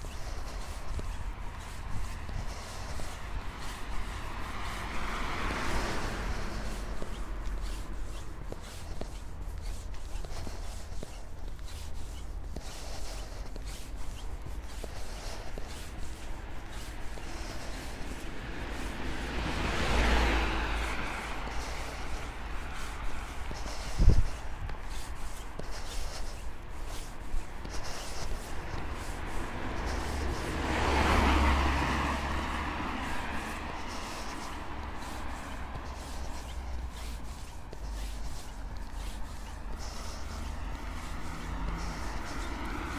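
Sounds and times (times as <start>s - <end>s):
car passing by: 0.0s - 42.9s
footsteps on pavement: 0.0s - 42.9s.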